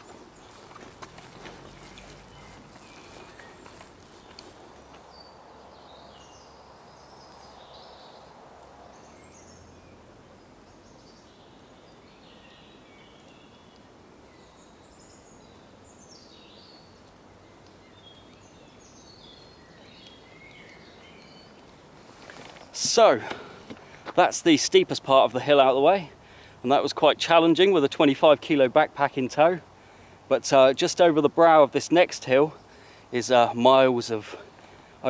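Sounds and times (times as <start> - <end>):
birds chirping and warbling: 0.0 - 35.0
faint background hiss: 0.0 - 35.0.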